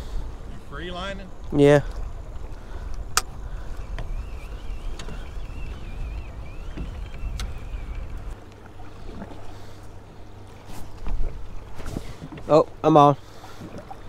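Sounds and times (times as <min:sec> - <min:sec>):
faint wavering whine: 0:00.0 - 0:12.0
wind and water rumble: 0:00.0 - 0:14.0.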